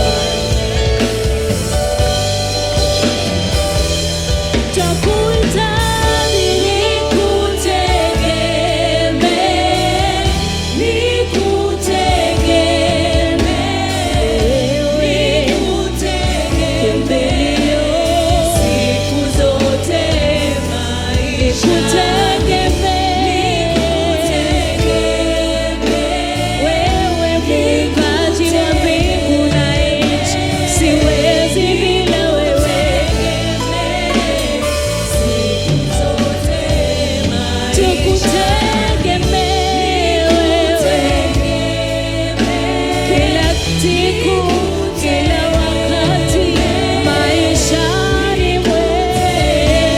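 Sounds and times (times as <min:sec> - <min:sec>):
band backing with bass line: 0:00.0 - 0:49.9
voices singing gospel song: 0:00.0 - 0:49.9.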